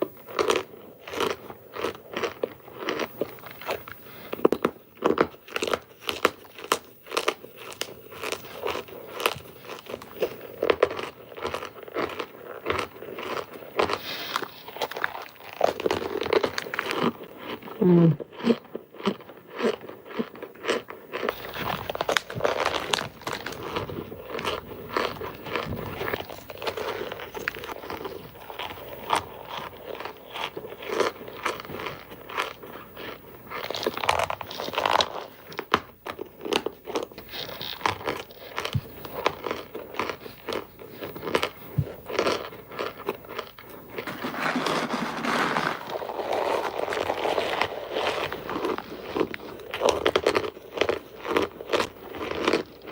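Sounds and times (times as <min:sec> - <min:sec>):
cornstarch bricks crunching: 0:00.3 - 0:52.9.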